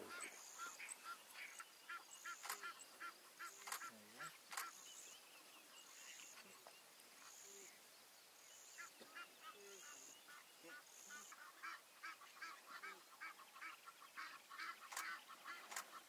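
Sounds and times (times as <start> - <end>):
short repeated bird calls: 0.0 - 16.0.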